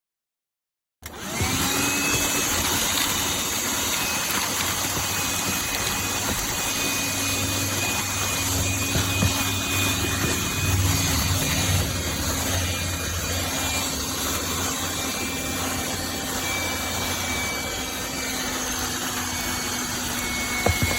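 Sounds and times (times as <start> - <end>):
handheld vacuum motor whine: 1.0 - 20.9.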